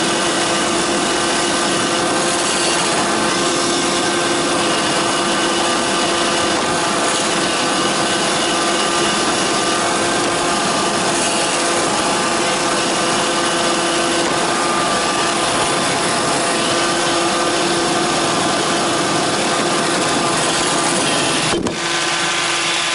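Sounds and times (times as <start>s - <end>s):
robot vacuum whirring: 0.0s - 22.9s.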